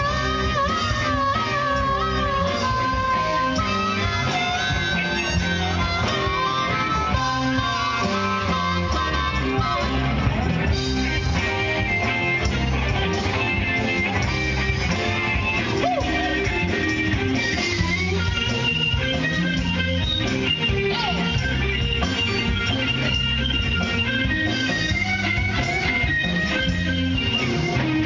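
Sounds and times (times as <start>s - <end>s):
electric guitar: 0.0s - 28.0s
live band instrumental: 0.0s - 28.0s.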